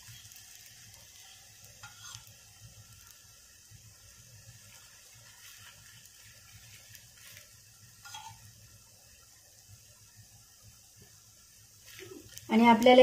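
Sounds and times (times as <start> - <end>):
faint sizzling in oil: 0.0 - 13.0.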